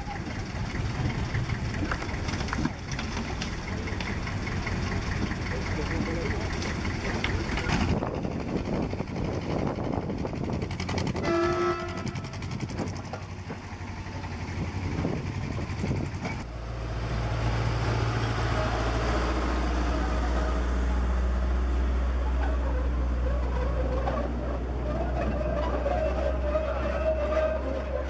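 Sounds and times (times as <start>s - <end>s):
diesel locomotive droning: 0.0s - 28.0s
machinery noise: 0.0s - 28.0s.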